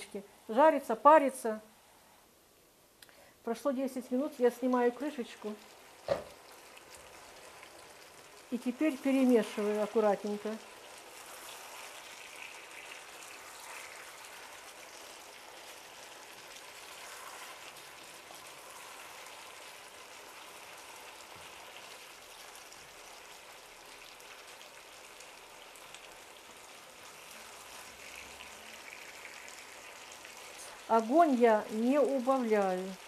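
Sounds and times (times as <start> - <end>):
food sizzling in a frying pan: 3.7 - 33.0.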